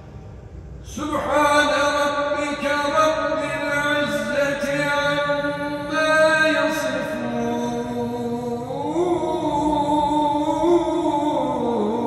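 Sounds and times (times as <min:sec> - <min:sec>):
man chanting melodically: 0:00.9 - 0:12.0.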